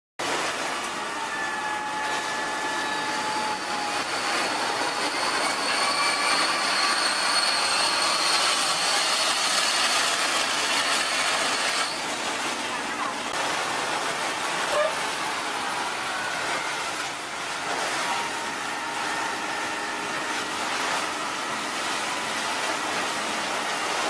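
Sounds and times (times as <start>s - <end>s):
wood chipper running: 0.2s - 24.0s
high-pitched whines: 0.4s - 12.1s, 14.7s - 23.8s.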